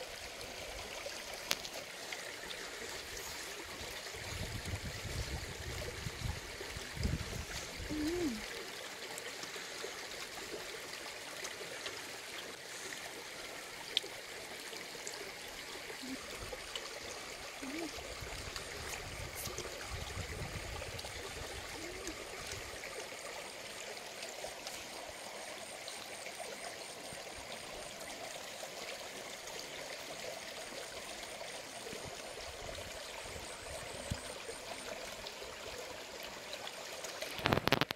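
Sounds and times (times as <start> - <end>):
shallow stream flowing: 0.0 - 37.9.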